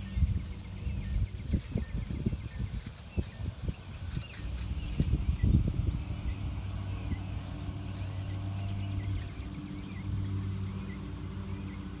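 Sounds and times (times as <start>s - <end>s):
motor vehicle engine hum: 0.0s - 12.0s
wind buffeting microphone: 0.0s - 12.0s.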